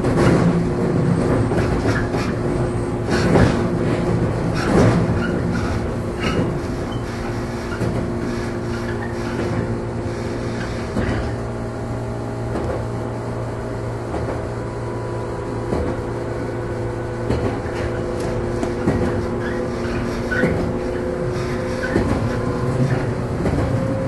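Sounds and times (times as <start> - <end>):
faint train wheel clack: 0.0 - 11.5, 12.5 - 13.0, 14.1 - 14.6, 15.7 - 16.2, 17.2 - 24.0
electric train motor hum: 0.0 - 24.0.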